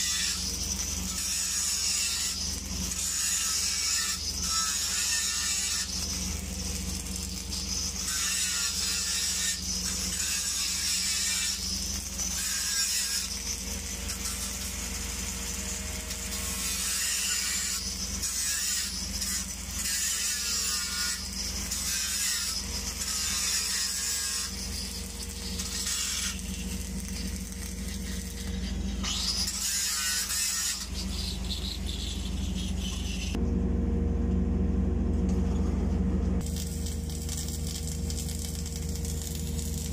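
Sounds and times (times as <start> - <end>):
welding arc crackling and hissing: 0.0 - 33.4, 36.4 - 39.9
steady low hum: 0.0 - 39.9.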